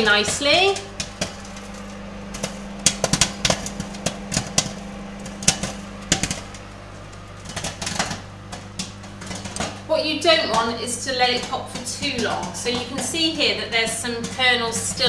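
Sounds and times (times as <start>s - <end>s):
microwave oven humming: 0.0s - 15.0s
popcorn popping: 0.0s - 15.0s.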